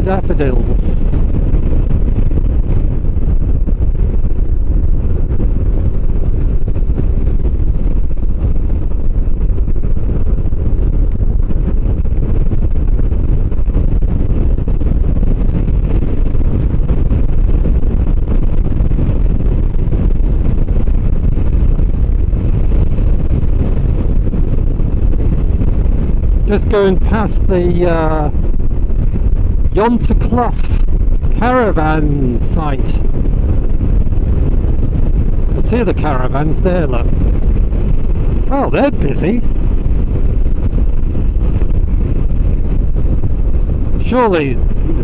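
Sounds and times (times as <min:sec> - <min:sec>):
wind buffeting on microphone: 0:00.0 - 0:45.0.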